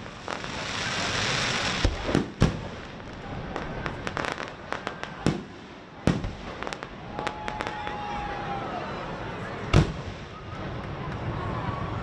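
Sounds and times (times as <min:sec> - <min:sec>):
firework crackling: 0:00.0 - 0:08.5, 0:09.4 - 0:12.0.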